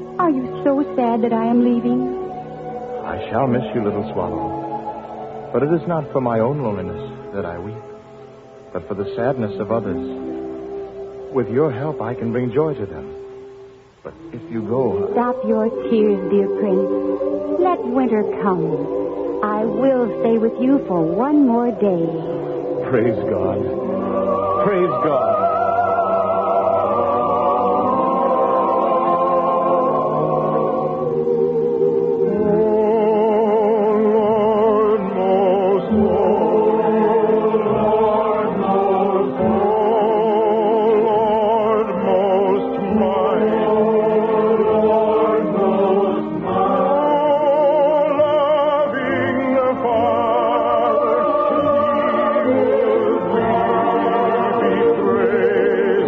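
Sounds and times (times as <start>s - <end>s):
choir singing: 0.0s - 13.0s, 14.1s - 56.0s.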